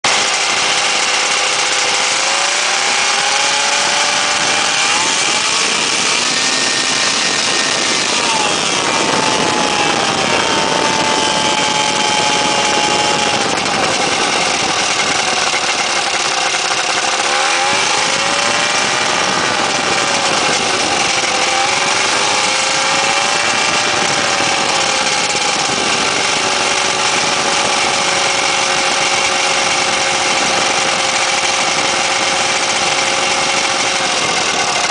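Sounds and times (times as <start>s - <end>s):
ultralight engine and propeller: 0.0s - 34.9s.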